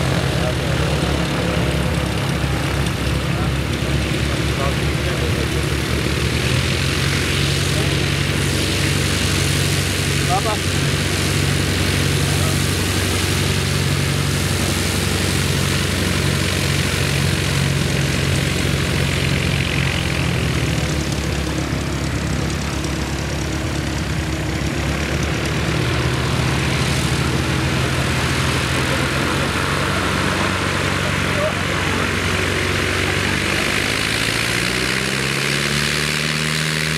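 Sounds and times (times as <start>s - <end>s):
light aircraft engine humming: 0.0s - 36.9s.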